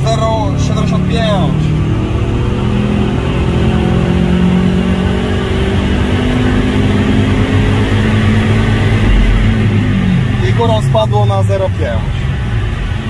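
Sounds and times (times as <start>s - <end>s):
turbocharged engine at full throttle: 0.0s - 13.0s.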